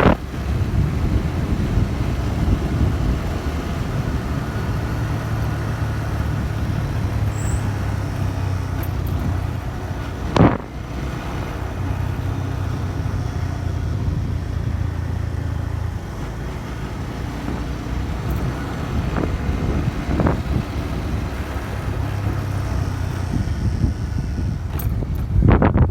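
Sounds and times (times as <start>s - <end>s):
motorcycle engine cruising: 0.0s - 25.9s
road and wind noise: 0.0s - 25.9s.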